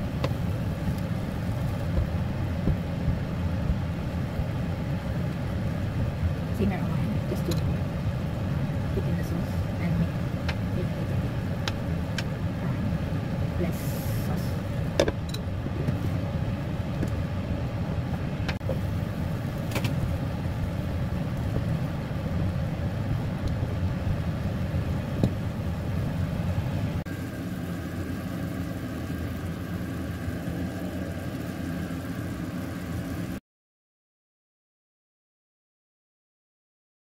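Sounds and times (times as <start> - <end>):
steady low hum: 0.0 - 33.4.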